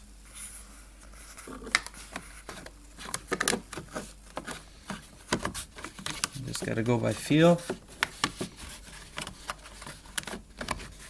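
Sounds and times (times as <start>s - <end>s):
plastic trim clicking and scraping: 1.7s - 11.0s.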